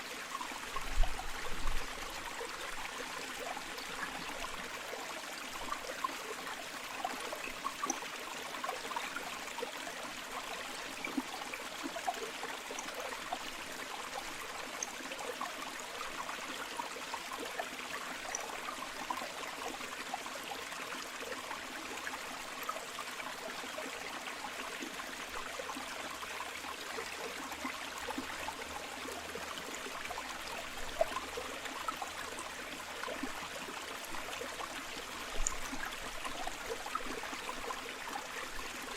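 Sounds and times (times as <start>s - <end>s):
river trickling over stones: 0.0s - 38.9s.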